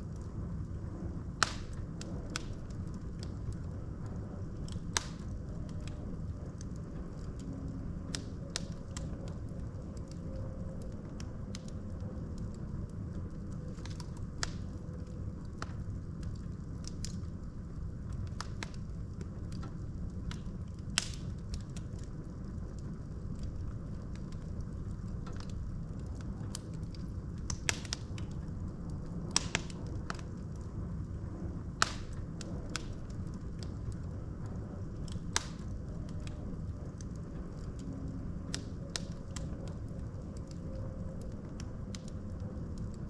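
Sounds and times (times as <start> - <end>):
logs crackling and popping: 0.0 - 43.0
wood fire rumbling: 0.0 - 43.0.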